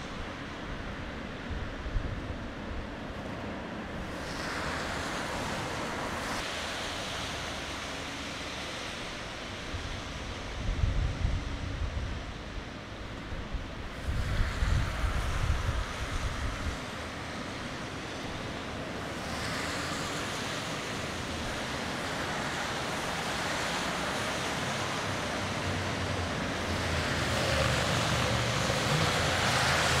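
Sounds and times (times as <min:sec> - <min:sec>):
wind rumbling on microphone: 0:00.0 - 0:03.2, 0:03.8 - 0:30.0
tyres hissing on wet asphalt: 0:02.8 - 0:30.0.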